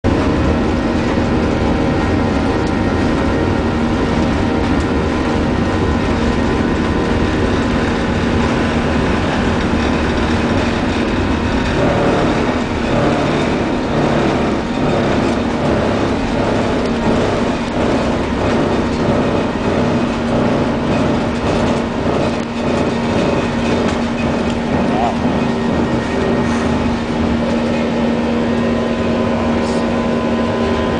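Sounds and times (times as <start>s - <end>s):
jet engines roaring: 0.0s - 30.9s
rhythmic grinding: 0.1s - 30.9s.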